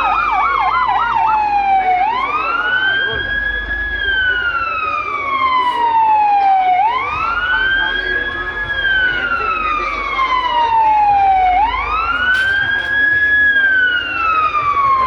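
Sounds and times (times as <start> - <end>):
siren wailing: 0.0 - 15.0.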